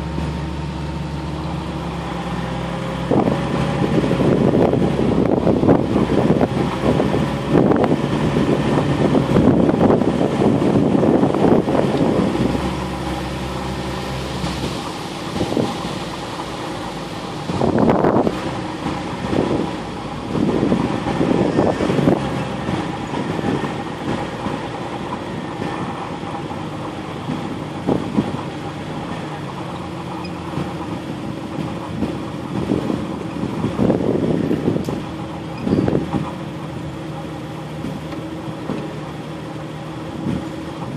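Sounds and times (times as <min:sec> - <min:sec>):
off-road vehicle engine rumble: 0:00.0 - 0:40.9
vehicle bumps and jolts: 0:00.0 - 0:40.9.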